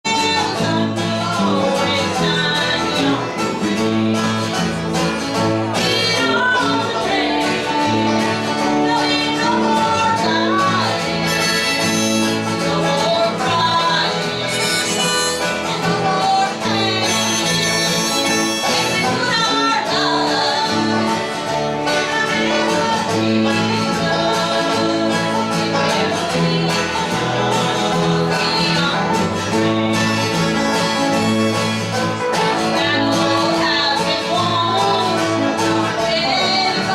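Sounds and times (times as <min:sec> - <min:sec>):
bass: 0:00.0 - 0:36.9
strummed acoustic guitar: 0:00.0 - 0:36.9.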